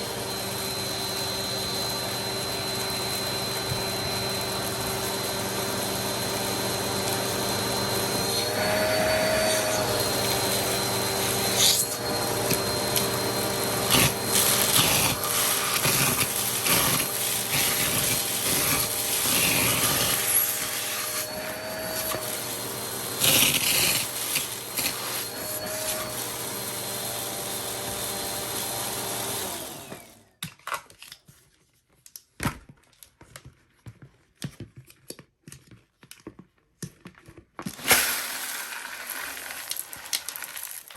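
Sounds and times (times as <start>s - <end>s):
vacuum cleaner motor running: 0.0s - 30.3s, 37.6s - 40.9s.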